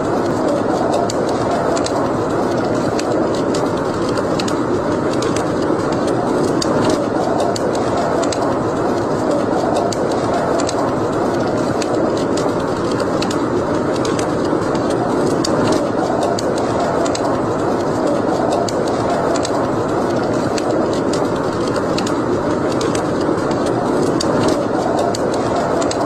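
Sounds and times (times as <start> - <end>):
steady rushing of fire: 0.0 - 26.0
wood fire crackling and popping: 0.0 - 26.0.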